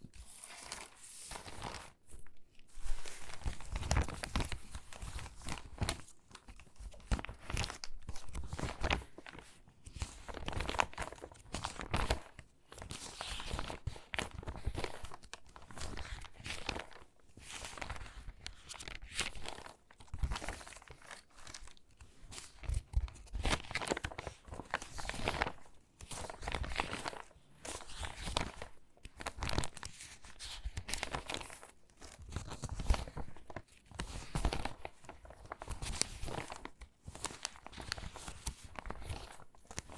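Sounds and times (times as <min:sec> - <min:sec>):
magazine pages rustling: 0:00.0 - 0:39.9.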